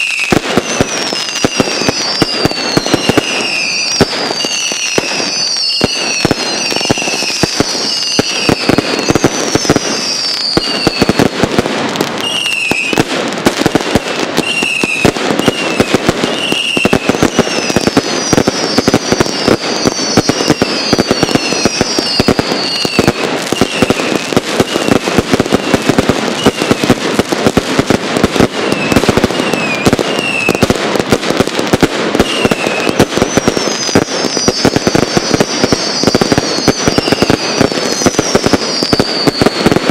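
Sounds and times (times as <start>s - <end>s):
falling firework whistles: 0.0s - 39.9s
fireworks crackling and popping: 0.0s - 39.9s.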